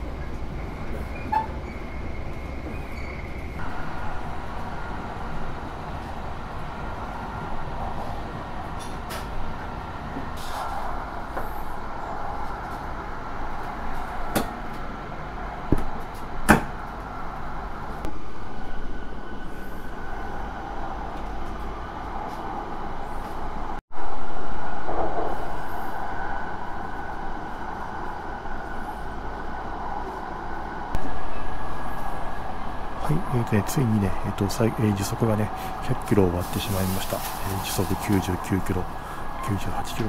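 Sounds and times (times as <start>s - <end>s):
train cabin rumble and hum: 0.0s - 40.0s.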